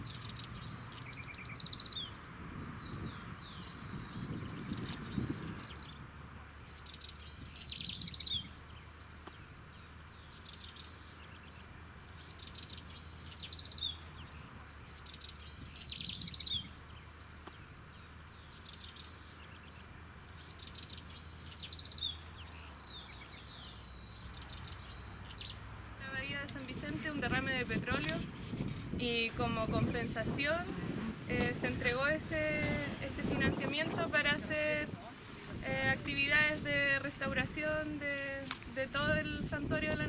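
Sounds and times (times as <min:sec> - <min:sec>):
wild bird singing: 0:00.0 - 0:40.0.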